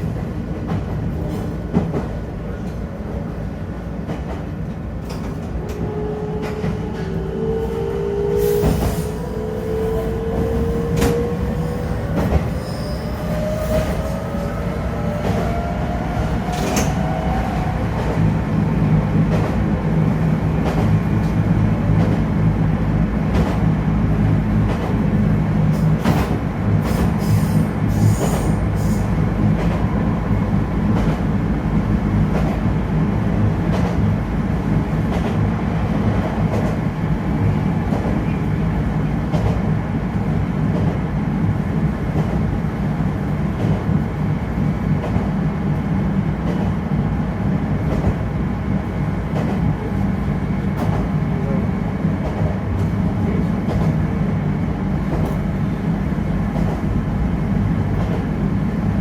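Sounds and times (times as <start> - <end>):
railcar engine drone: 0.0 - 59.0.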